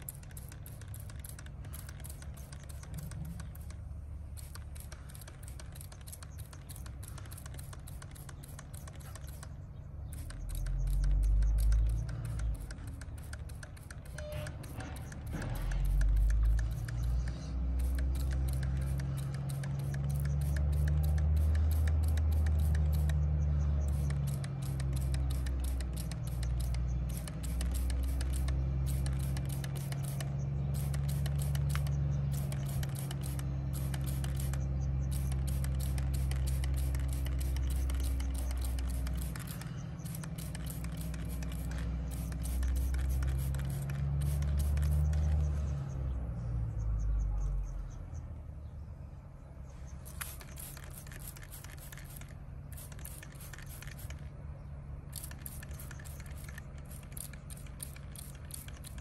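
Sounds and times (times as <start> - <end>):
trigger sprayer squirting: 0.0 - 45.5, 50.0 - 54.4, 55.1 - 59.0
low wavering hum: 0.0 - 59.0.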